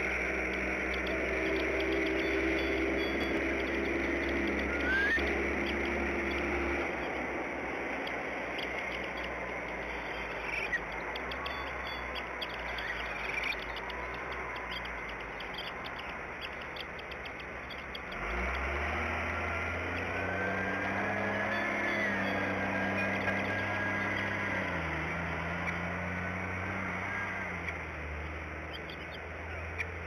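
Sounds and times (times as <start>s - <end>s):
faint high bird chirps: 0.0s - 30.0s
motor vehicle droning: 0.0s - 30.0s
wind in leaves: 0.0s - 30.0s.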